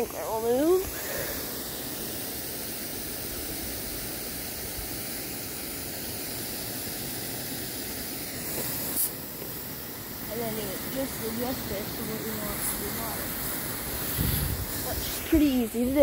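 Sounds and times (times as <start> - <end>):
sprinkler spraying water: 0.0 - 16.0.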